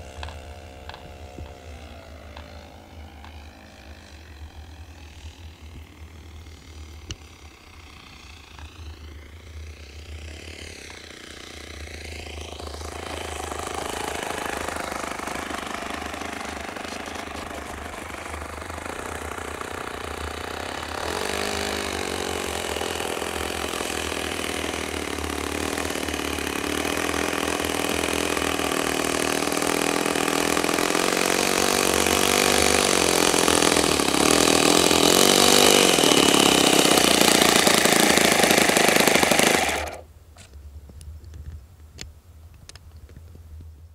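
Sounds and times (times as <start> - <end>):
model airplane engine: 0.0 - 40.6.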